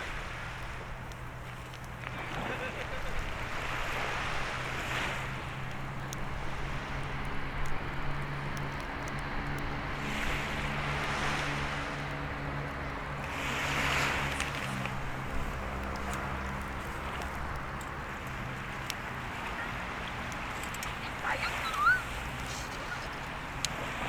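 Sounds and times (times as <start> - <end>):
bonfire crackling: 0.0 - 24.0
low engine hum: 0.0 - 24.0
waves washing on shore: 0.0 - 24.0.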